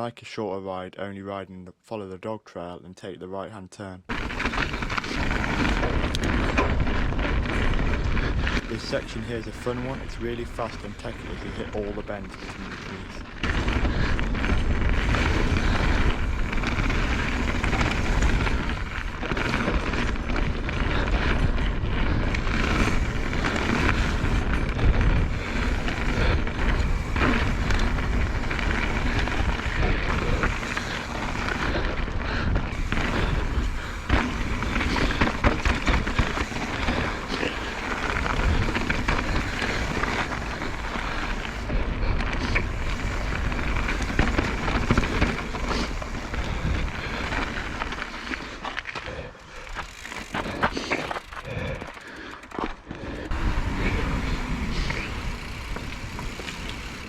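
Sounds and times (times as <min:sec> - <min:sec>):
wind rumbling on microphone: 0:04.1 - 0:51.9, 0:53.0 - 0:57.0
bike rattling over bumps: 0:04.1 - 0:57.0
bike tyres on dirt and roots: 0:04.1 - 0:57.0.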